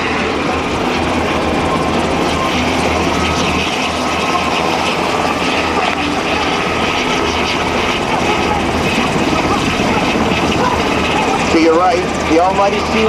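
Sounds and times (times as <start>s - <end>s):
helicopter flying low past: 0.0s - 13.0s.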